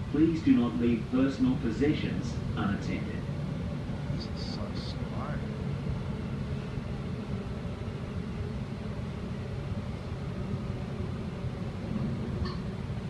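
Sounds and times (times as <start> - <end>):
faint steady hum: 0.0 - 13.0
train rumbling: 0.0 - 13.0.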